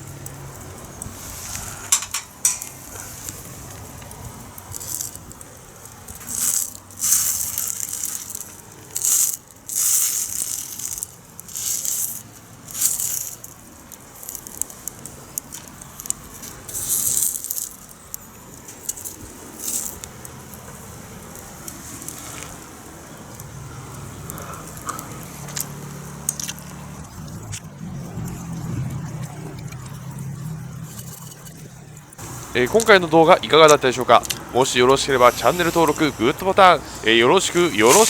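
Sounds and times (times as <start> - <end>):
rice ball sizzling on fire: 0.0 - 38.0.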